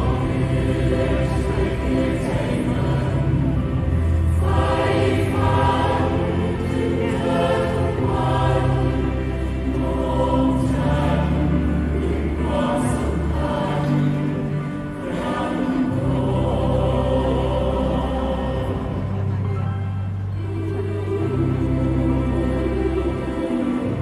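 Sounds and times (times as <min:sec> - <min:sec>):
mixed choir singing in harmony: 0:00.0 - 0:24.0.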